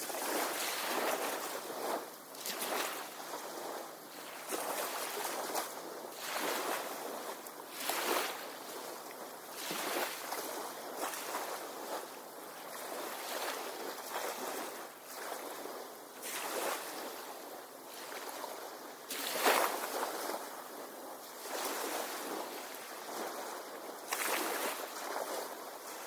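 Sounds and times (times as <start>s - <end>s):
waves washing onto beach: 0.0s - 26.0s.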